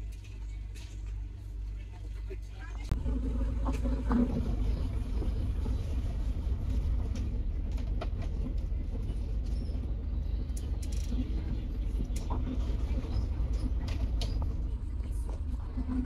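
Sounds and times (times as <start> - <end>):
faint passenger chatter: 0.0 - 16.0
ferry engines rumbling: 0.0 - 16.0.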